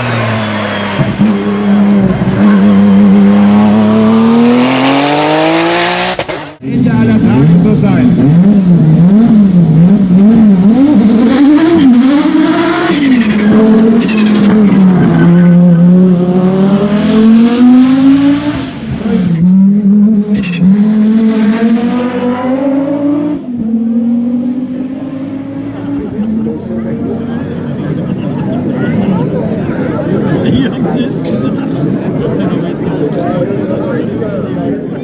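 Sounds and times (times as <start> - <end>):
race car engine revving: 0.0 - 35.0.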